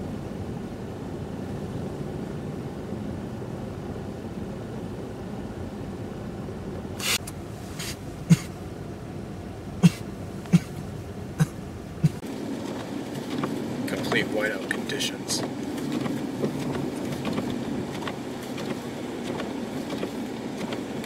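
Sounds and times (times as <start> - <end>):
blizzard wind: 0.0 - 21.0
low rumble of running vehicles: 0.0 - 21.0.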